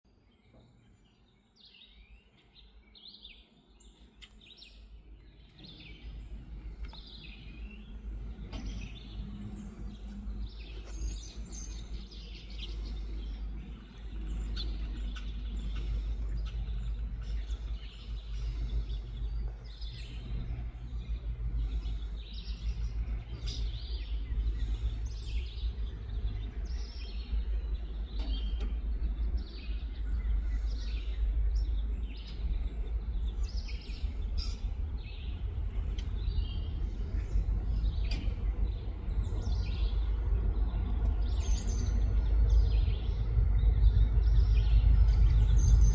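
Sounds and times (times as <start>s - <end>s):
birds chirping: 3.1s - 45.9s
diesel locomotive rumbling: 5.4s - 45.9s.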